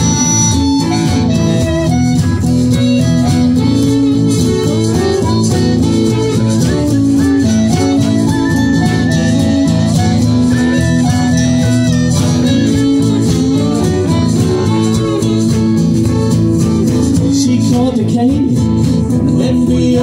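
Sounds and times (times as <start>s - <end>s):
fiddle: 0.0s - 17.9s
guitar: 0.0s - 20.0s
upright bass: 0.0s - 20.0s.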